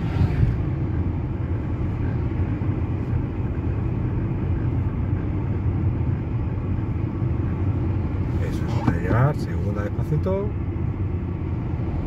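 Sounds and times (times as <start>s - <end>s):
car driving at road speed: 0.0s - 12.0s.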